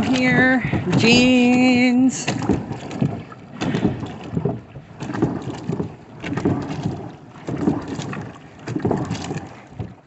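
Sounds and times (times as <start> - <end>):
water and clothes sloshing in drum: 0.0 - 10.0.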